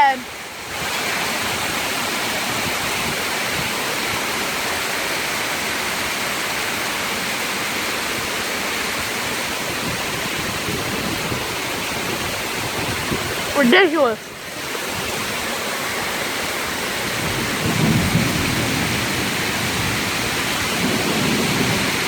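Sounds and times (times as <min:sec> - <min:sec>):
heavy rain pouring: 0:00.0 - 0:22.0
strong wind: 0:00.0 - 0:22.0.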